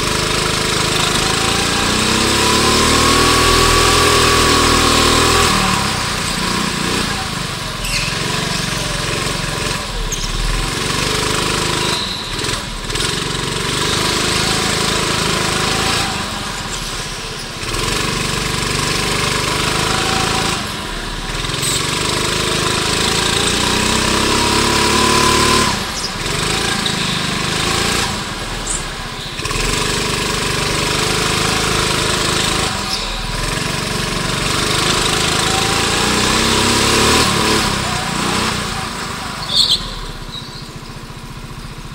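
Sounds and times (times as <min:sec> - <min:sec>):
go-kart engine revving: 0:00.0 - 0:41.9.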